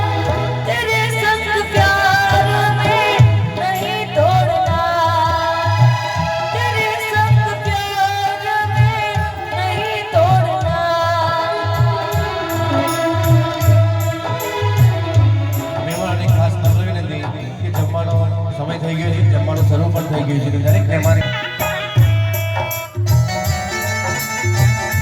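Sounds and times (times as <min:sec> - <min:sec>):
steady low drum beat: 0:00.0 - 0:25.0.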